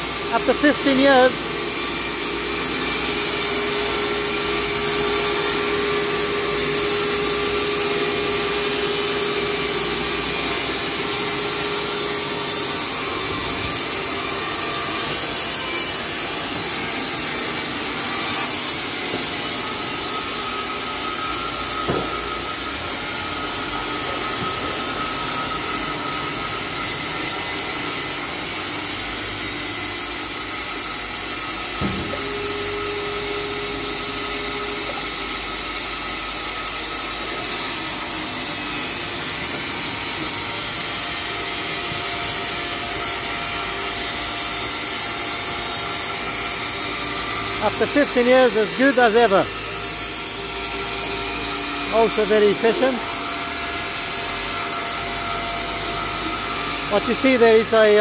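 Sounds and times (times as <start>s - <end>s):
band saw hissing: 0.0s - 58.0s.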